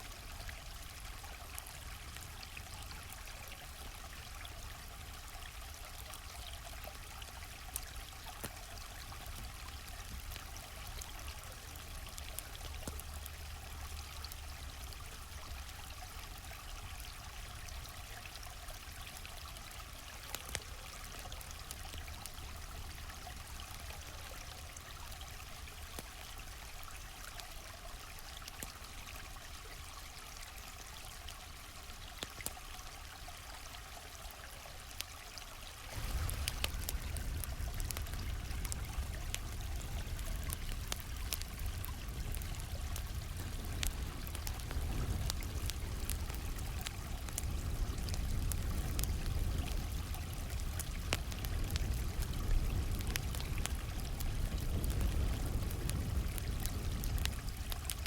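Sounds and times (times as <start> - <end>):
campfire crackling: 0.0 - 33.2, 33.8 - 58.0
stream flowing: 0.0 - 58.0.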